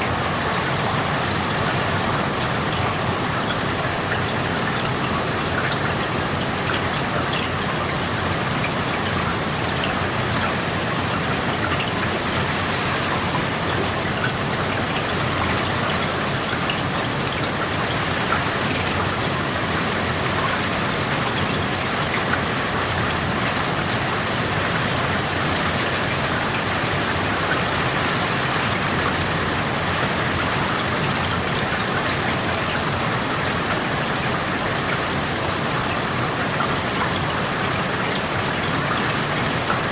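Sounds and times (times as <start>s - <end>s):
rain falling: 0.0s - 39.9s
raindrops tapping on surfaces: 0.0s - 39.9s.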